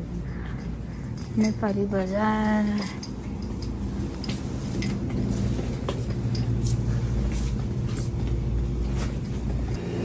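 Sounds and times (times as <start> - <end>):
light clicks and clinks: 0.0 - 9.8
low machine hum: 0.0 - 10.0.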